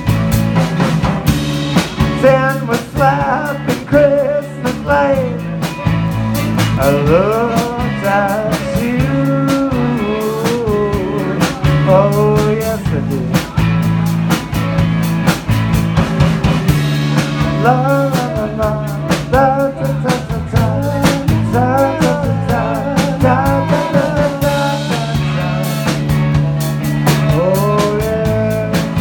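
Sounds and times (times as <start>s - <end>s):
lead guitar with bending notes: 0.0s - 29.0s
rock band playing: 0.0s - 29.0s.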